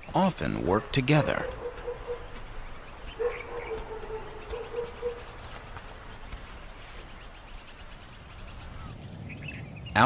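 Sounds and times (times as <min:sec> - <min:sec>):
crickets chirping: 0:00.0 - 0:09.0.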